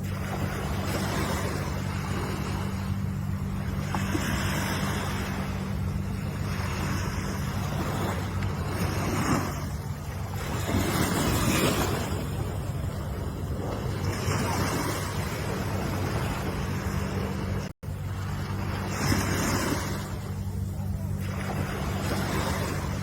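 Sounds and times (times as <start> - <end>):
ocean waves washing in: 0.0 - 23.0
steady low hum: 0.0 - 23.0.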